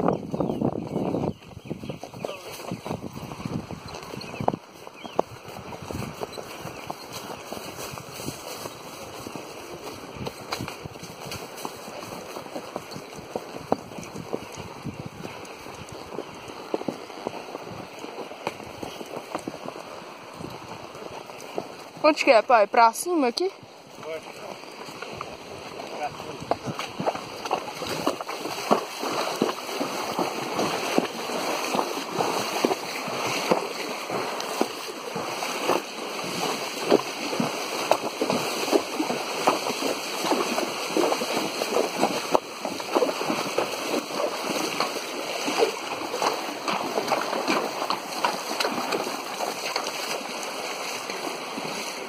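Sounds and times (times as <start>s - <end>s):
hooves splashing in water: 0.0s - 52.0s.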